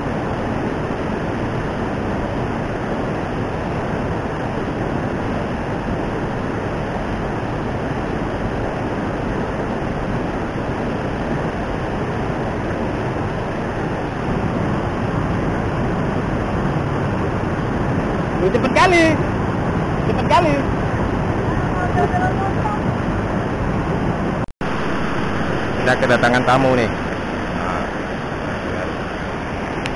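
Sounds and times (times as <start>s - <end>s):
fast-flowing river water rushing: 0.0s - 29.9s.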